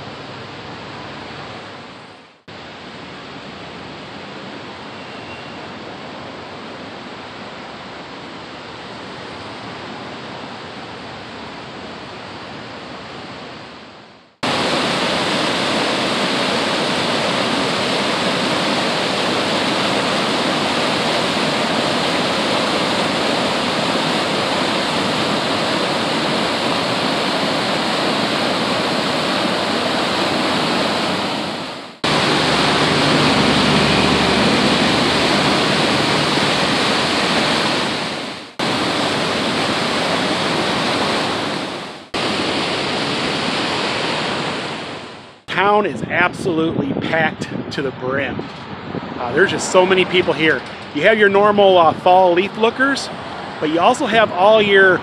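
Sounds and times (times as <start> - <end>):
swollen river rushing: 0.0 - 46.5, 48.0 - 55.0.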